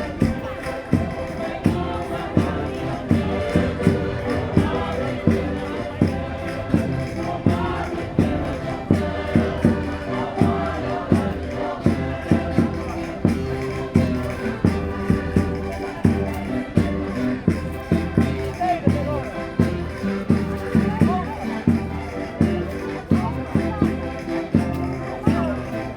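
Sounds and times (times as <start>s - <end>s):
steady thumping beat: 0.0s - 25.6s
concertinas playing folk dance tune: 0.0s - 25.9s
voices singing along: 0.0s - 25.9s.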